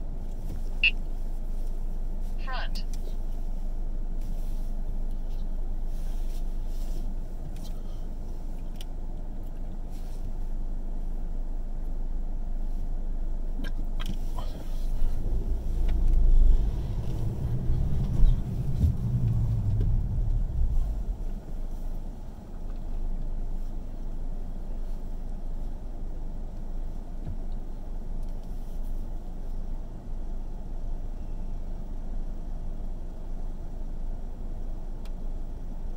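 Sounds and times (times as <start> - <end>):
car engine idling: 0.0 - 30.5
car engine and road rumble: 0.0 - 35.9.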